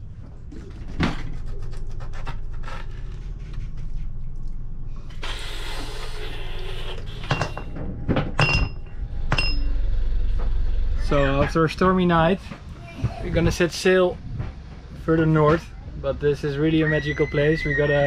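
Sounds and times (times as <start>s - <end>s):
low hum: 0.0s - 16.7s.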